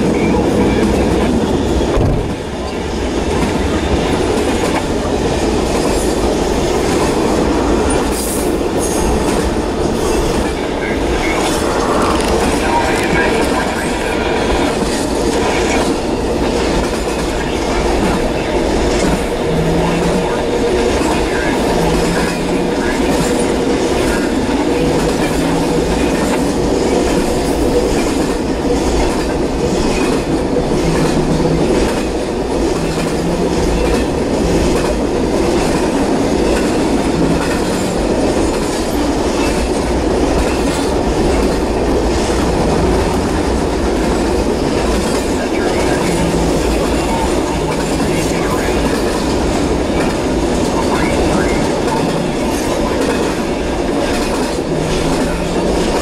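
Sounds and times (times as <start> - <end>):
freight train rumbling past: 0.0 - 56.0
wheels clacking on rails: 0.0 - 56.0.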